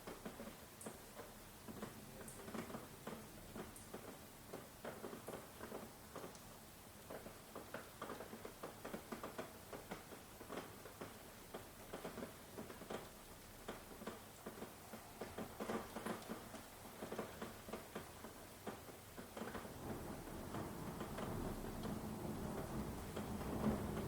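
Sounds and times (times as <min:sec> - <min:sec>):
rain drops pattering: 0:00.0 - 0:24.0
steady hiss of rainfall: 0:00.0 - 0:24.0.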